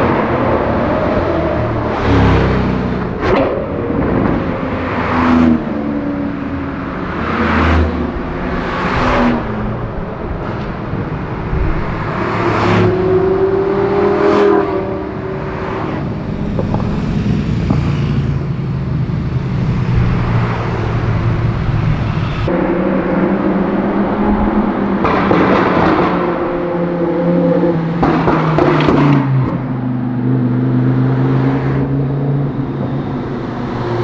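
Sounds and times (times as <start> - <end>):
sports cars accelerating past: 0.0 - 17.8, 19.6 - 34.0.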